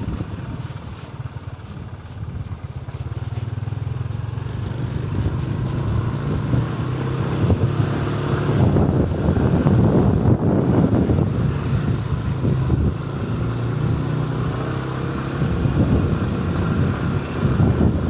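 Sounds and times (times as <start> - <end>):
wind rushing over microphone: 0.0 - 0.9, 4.2 - 18.0
motorcycle engine running: 0.0 - 18.0.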